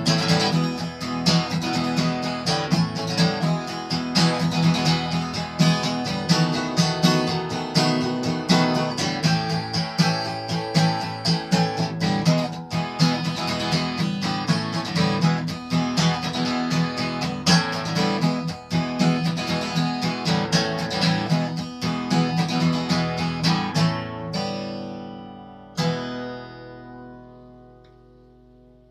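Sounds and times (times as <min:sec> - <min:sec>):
acoustic guitar playing slow blues: 0:00.0 - 0:28.9.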